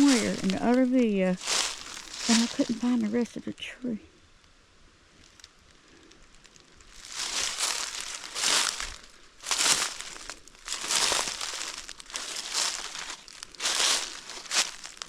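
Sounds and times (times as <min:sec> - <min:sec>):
footsteps in dry leaves: 0:00.0 - 0:03.3, 0:05.2 - 0:15.0.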